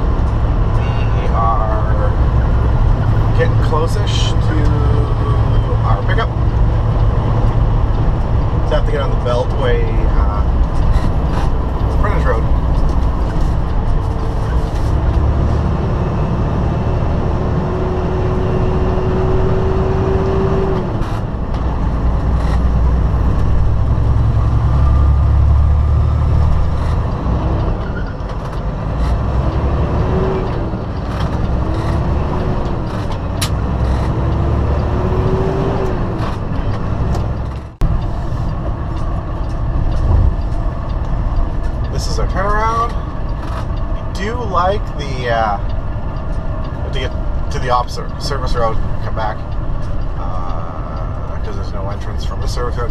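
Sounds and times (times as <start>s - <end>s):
diesel truck engine accelerating: 0.0s - 52.9s.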